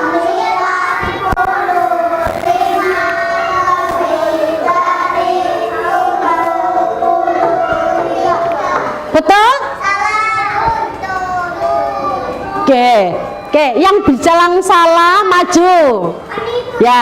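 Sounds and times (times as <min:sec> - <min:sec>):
children reading aloud in unison: 0:00.0 - 0:12.8, 0:13.7 - 0:17.0.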